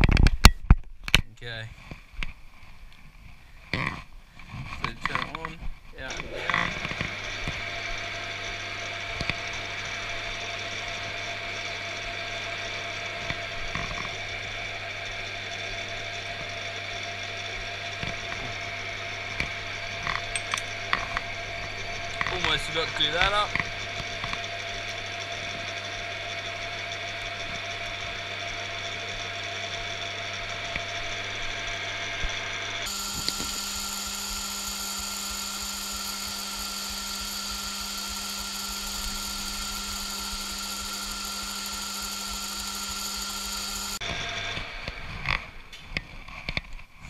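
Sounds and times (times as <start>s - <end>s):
metal lathe running: 4.8s - 45.7s.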